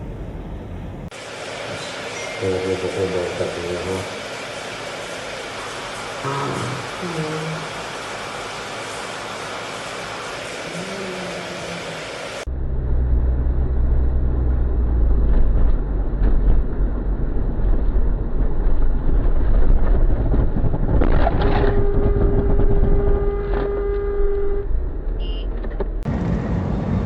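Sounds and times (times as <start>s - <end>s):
vehicle and road rumble: 0.0s - 27.0s.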